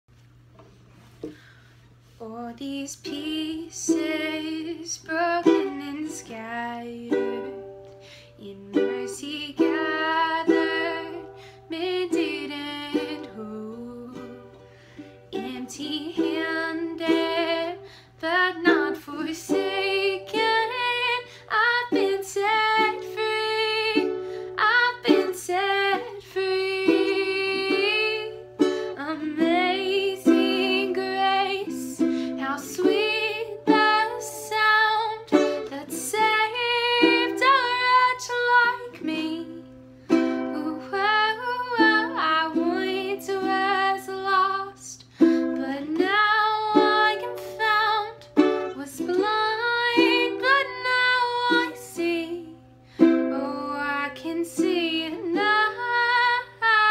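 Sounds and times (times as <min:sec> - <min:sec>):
woman singing: 0:02.2 - 0:14.7, 0:15.3 - 0:56.9
ukulele strumming: 0:03.0 - 0:56.9.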